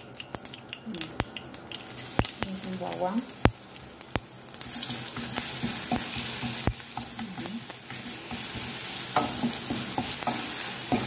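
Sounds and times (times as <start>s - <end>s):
garlic sizzling in hot oil: 0.0s - 11.0s
spoon tapping and scraping pan: 0.2s - 2.5s, 3.4s - 11.0s.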